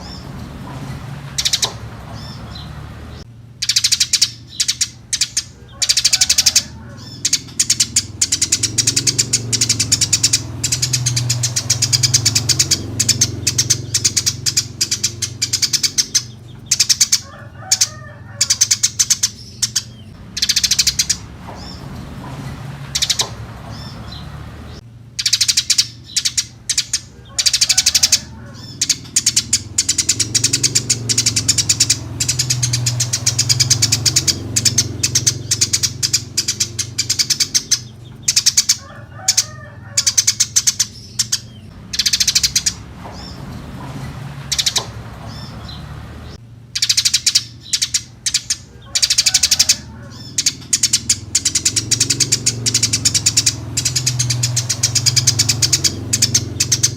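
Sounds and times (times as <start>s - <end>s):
sparrows chirping rapidly: 0.0s - 56.9s.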